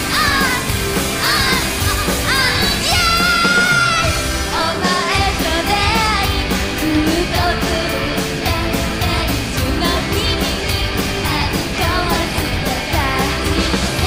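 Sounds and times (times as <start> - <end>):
bass guitar: 0.0 - 14.0
drums: 0.0 - 14.0
electric guitar: 0.0 - 14.0
live rock band: 0.0 - 14.0
woman singing: 0.0 - 14.0.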